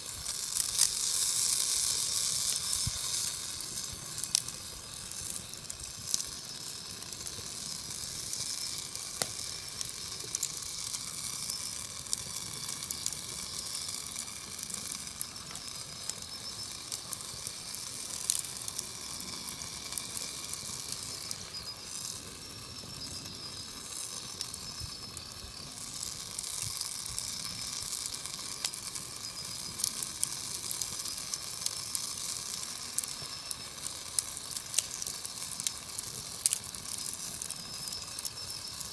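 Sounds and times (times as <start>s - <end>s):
campfire hissing and crackling: 0.0s - 38.9s.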